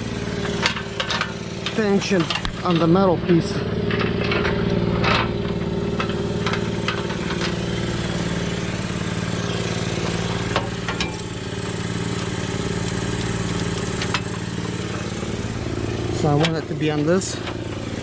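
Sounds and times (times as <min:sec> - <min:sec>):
motor running steadily: 0:00.0 - 0:18.0.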